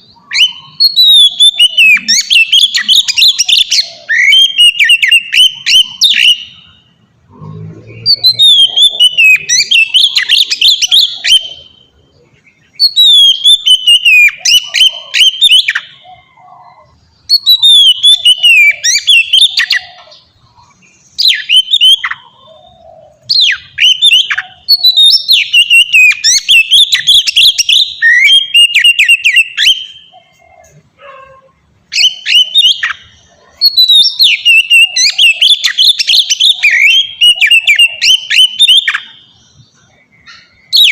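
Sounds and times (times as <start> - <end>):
songbird whistling and warbling: 0.0 - 40.9.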